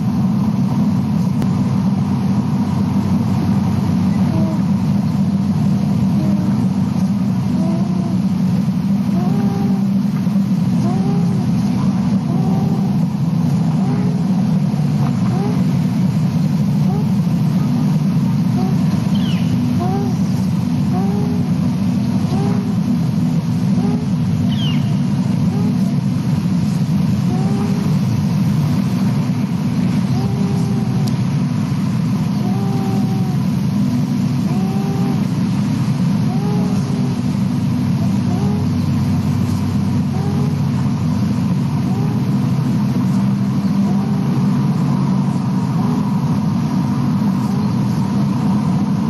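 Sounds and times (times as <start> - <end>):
steady low rumble: 0.0 - 49.0
eaglet wheezing: 3.0 - 46.0.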